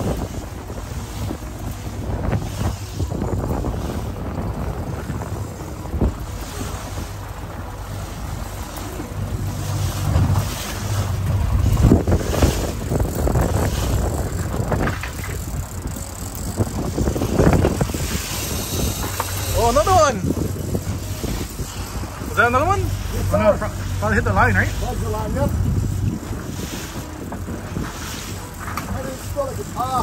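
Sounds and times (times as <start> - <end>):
outboard motor running: 0.0 - 30.0
rushing wake water: 0.0 - 30.0
wind buffeting microphone: 0.0 - 30.0.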